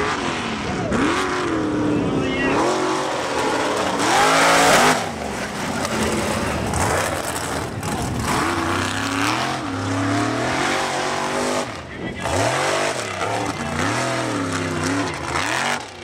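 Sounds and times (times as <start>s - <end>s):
buggy engine revving: 0.0s - 16.0s.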